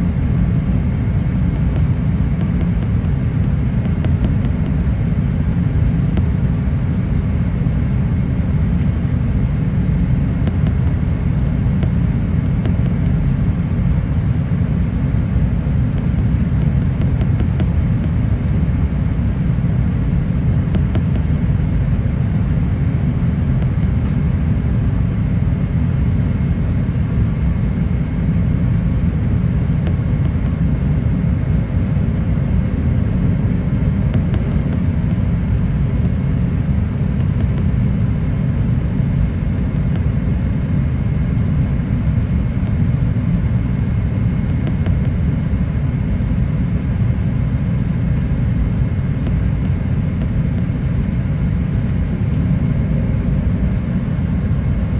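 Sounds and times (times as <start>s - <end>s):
aircraft cabin rumble: 0.0s - 54.9s
faint whine: 0.0s - 54.9s.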